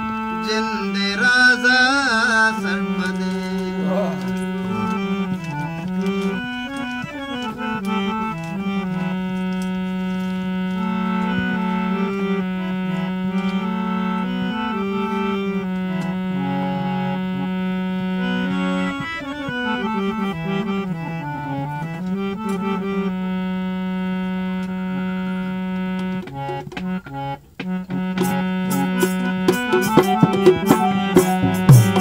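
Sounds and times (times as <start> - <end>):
harmonium playing slow melody: 0.0 - 32.0.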